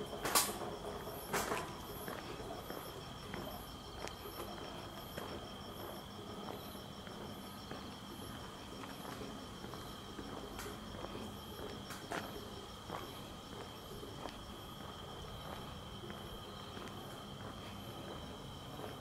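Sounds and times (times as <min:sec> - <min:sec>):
faint footsteps: 0:00.0 - 0:19.0
high insect chirp: 0:00.0 - 0:19.0
insects trilling: 0:00.0 - 0:19.0.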